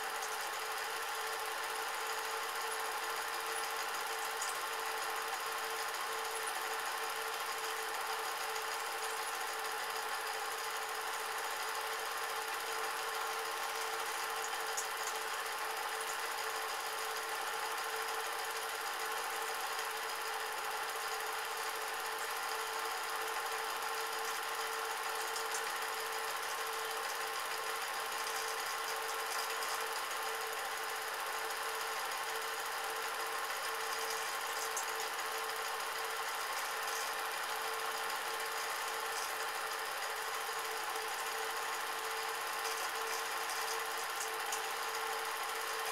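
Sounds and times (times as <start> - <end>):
film projector whirring: 0.0 - 45.9.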